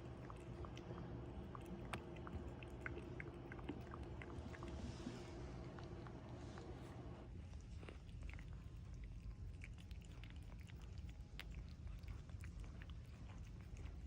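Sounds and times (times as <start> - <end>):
cat chewing: 0.0 - 14.0.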